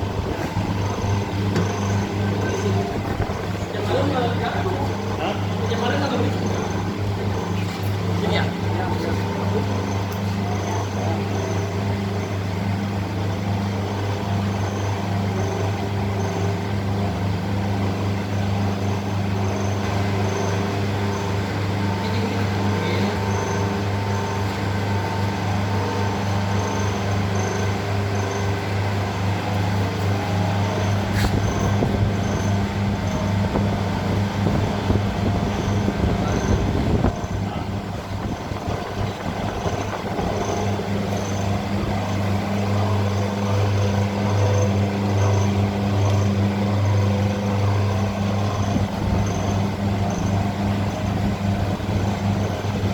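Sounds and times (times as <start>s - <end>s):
machine motor humming: 0.0s - 52.9s.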